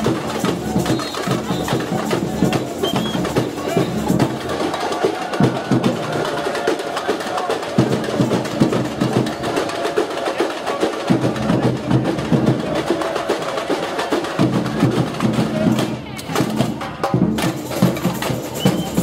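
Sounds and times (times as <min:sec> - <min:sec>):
music with fast drumming: 0:00.0 - 0:19.0.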